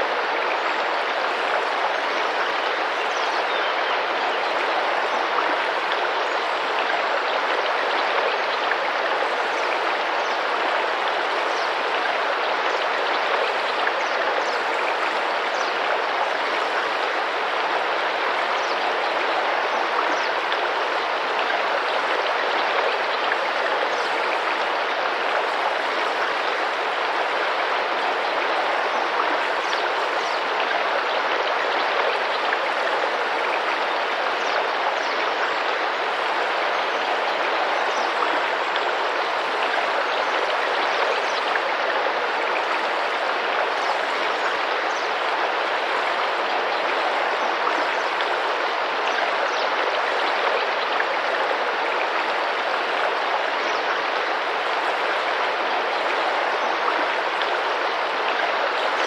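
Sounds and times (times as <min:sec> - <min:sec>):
river flowing and splashing: 0:00.0 - 0:59.0.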